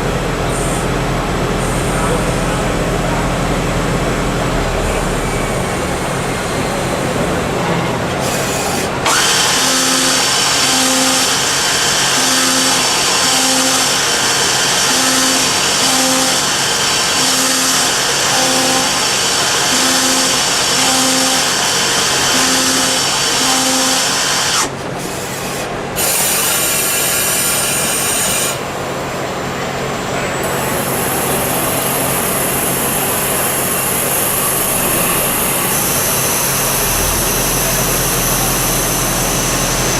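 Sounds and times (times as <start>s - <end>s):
lathe cutting metal with whine: 0.0s - 39.9s.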